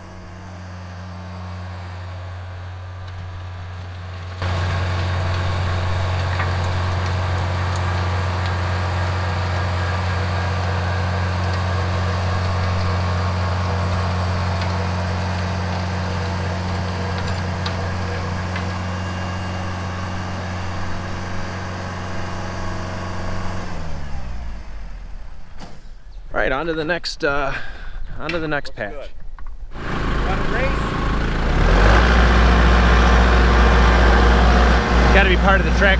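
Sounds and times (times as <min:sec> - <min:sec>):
tractor diesel engine running: 0:00.0 - 0:28.5, 0:29.6 - 0:35.9.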